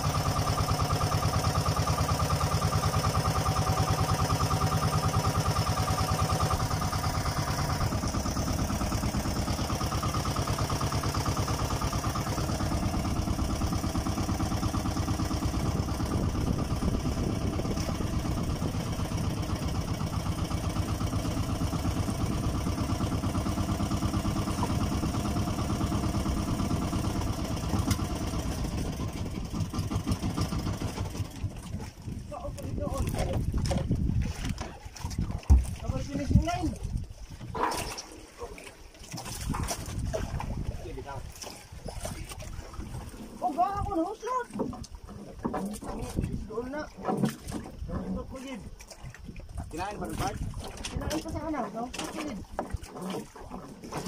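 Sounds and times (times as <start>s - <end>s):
boat motor chugging: 0.0s - 54.0s.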